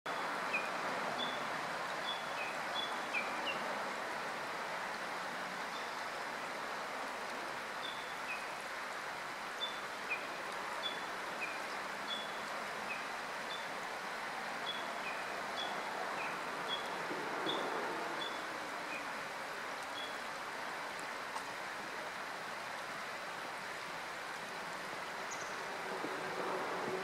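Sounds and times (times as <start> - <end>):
outdoor background hiss: 0.1 - 27.0.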